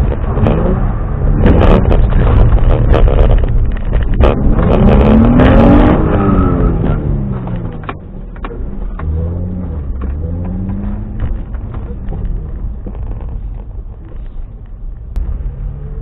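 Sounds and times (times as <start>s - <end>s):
car engine revving: 0.0s - 14.3s, 15.1s - 16.0s.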